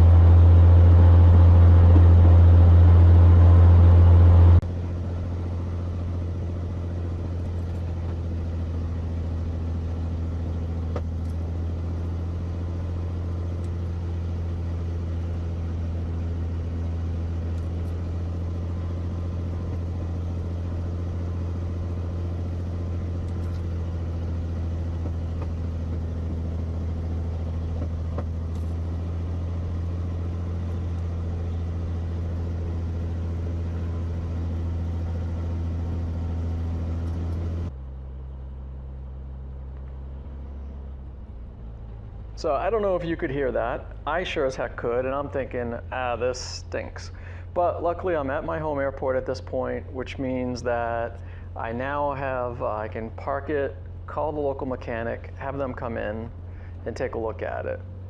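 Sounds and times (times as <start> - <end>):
piston aircraft engine droning: 0.0 - 58.0.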